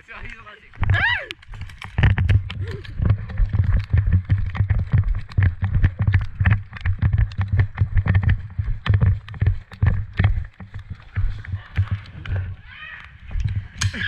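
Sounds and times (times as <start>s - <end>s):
running footsteps: 0.0s - 14.0s
sharp clicks and knocks: 0.7s - 14.0s.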